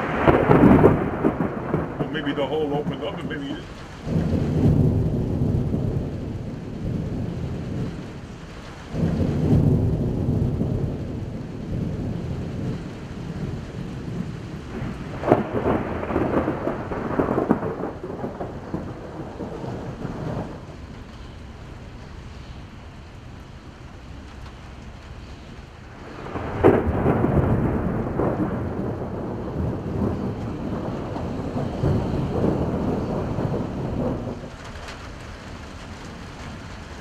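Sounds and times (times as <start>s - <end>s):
crackling thunder cracks: 0.0s - 37.0s
steady rain: 0.0s - 37.0s
thunder rumbling: 0.0s - 37.0s.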